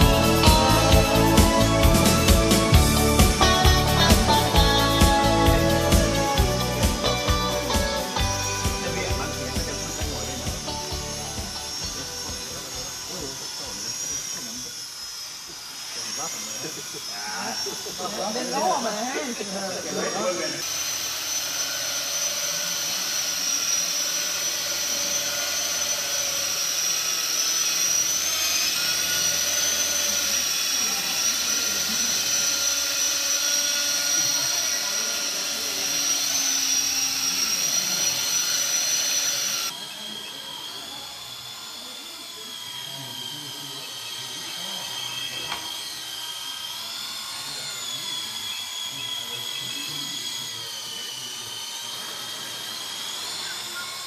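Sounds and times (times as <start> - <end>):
remote-control helicopters whining: 0.0 - 54.0.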